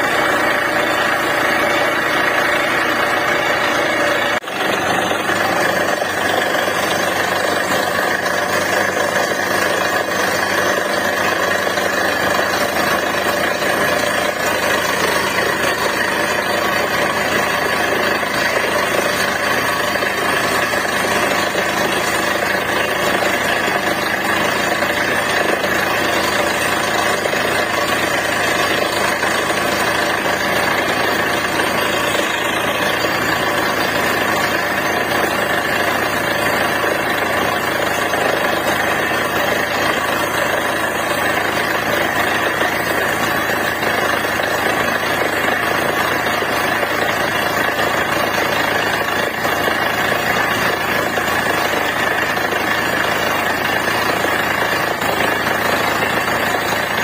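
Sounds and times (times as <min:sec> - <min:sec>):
drilling rig engine drone: 0:00.0 - 0:57.0.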